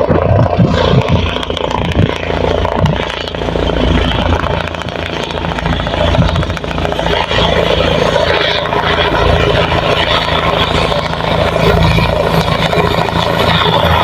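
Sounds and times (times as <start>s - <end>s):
helicopter rotor and turbine: 0.0s - 14.0s.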